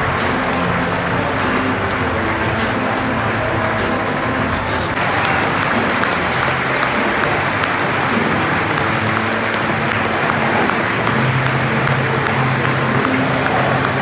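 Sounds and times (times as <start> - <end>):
crowd clapping: 0.0 - 14.0
crowd voices: 0.0 - 14.0.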